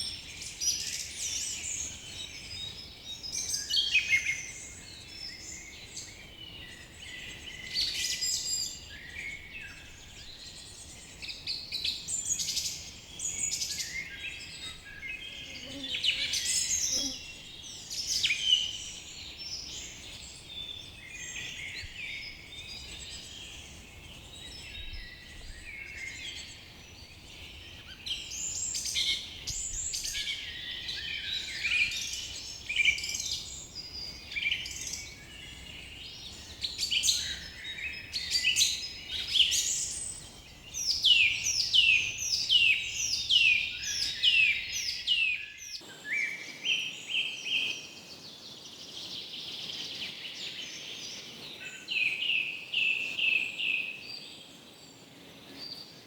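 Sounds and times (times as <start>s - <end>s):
faint insect hum: 0.0s - 56.0s
songbirds chirping and trilling: 0.0s - 56.0s.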